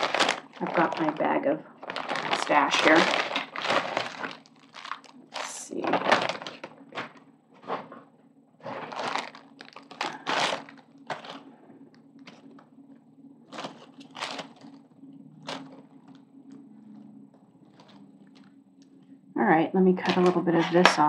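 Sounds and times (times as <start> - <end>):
plastic bag crinkling and rustling: 0.0 - 11.6, 12.2 - 12.6, 13.5 - 18.6, 20.0 - 21.0
faint low hum: 0.0 - 21.0.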